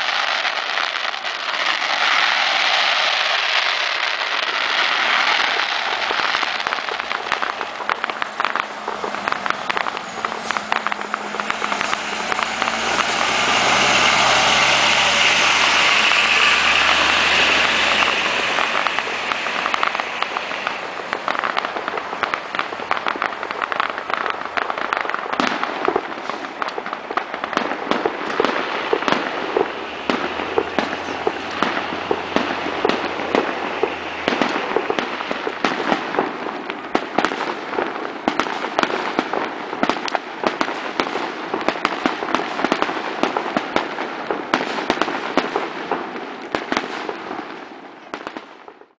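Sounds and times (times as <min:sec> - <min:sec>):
fireworks crackling and banging: 0:00.0 - 0:49.0.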